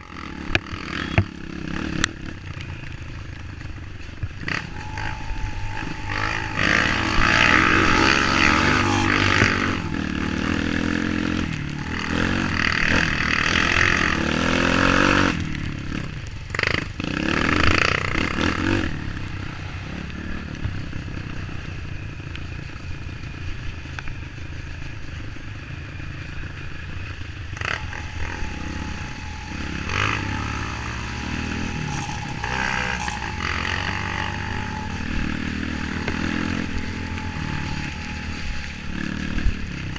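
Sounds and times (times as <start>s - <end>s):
motorcycle engine revving: 0.0s - 22.1s, 25.6s - 39.9s.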